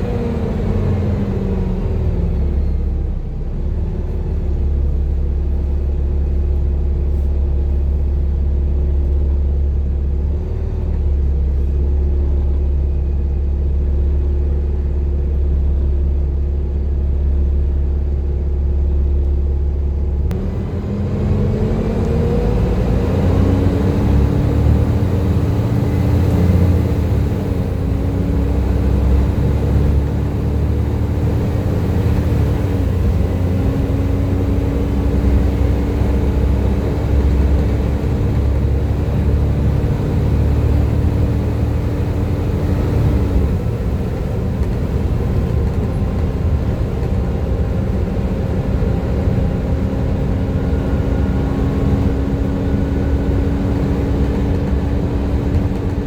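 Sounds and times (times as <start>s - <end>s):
bus engine whining and rumbling: 0.0s - 56.0s.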